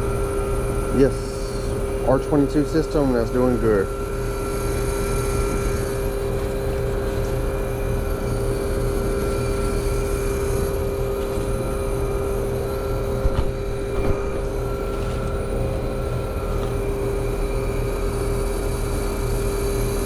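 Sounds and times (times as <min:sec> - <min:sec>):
air conditioner compressor humming: 0:00.0 - 0:20.0.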